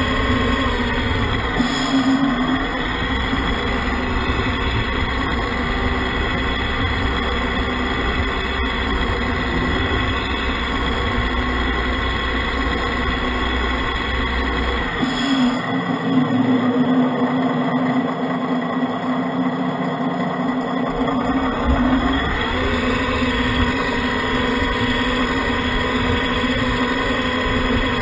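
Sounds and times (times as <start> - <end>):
model trucks droning: 0.0 - 28.0.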